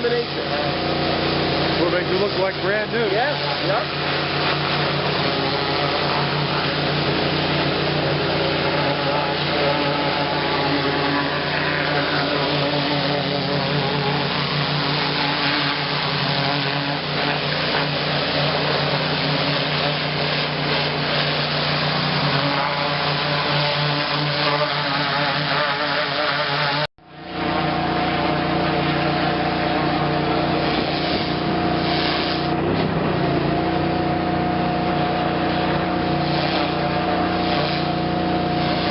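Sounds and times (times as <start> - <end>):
spray hissing: 0.0 - 26.9, 28.8 - 32.6, 35.3 - 38.9
pressure washer engine drone: 0.0 - 38.9.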